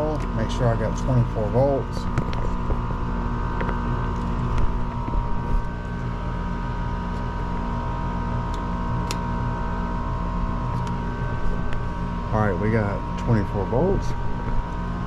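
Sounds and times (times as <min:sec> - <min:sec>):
machine motor humming with whine: 0:00.0 - 0:15.0.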